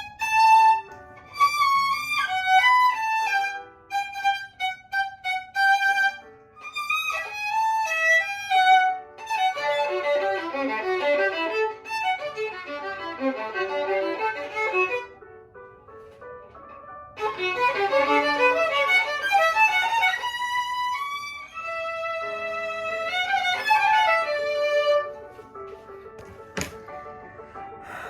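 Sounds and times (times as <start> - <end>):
violin playing: 0.0 - 15.2, 17.2 - 25.4.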